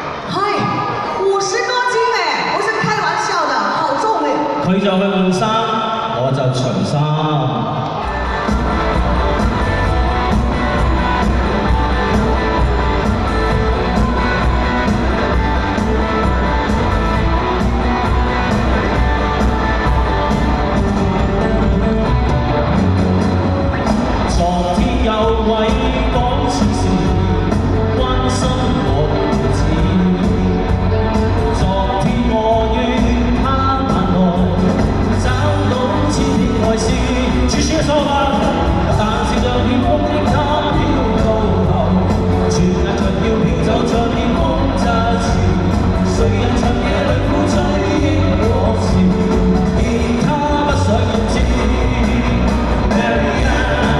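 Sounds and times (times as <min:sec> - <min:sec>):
pop band music with guitar: 0:05.3 - 0:53.9
steady drum beat: 0:08.0 - 0:53.9.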